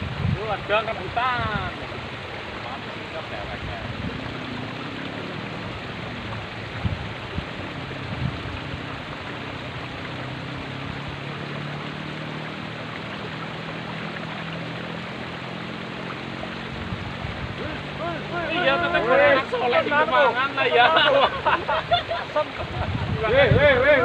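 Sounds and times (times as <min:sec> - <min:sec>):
water rushing along a ditch: 0:00.0 - 0:24.0.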